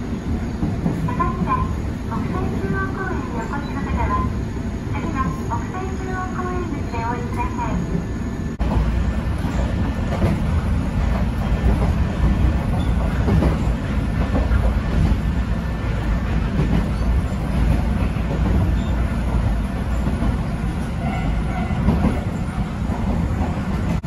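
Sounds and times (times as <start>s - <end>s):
train running gear rumble: 0.0s - 24.0s.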